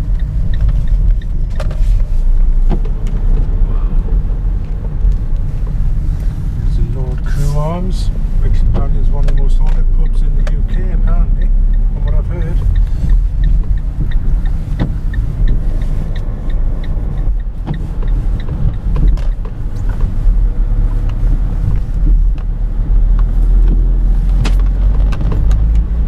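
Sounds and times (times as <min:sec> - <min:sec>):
car engine and road noise: 0:00.0 - 0:26.0
light regular ticking: 0:00.0 - 0:26.0.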